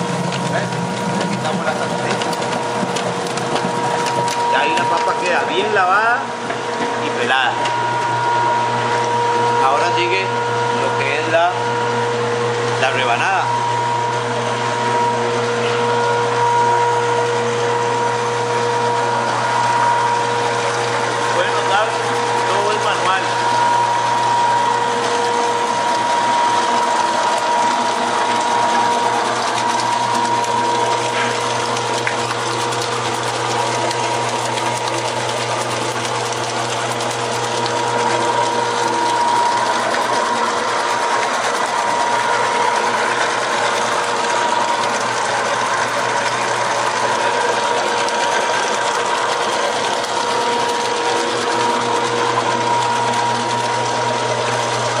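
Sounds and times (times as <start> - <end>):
potato slicer motor humming: 0.0 - 55.0.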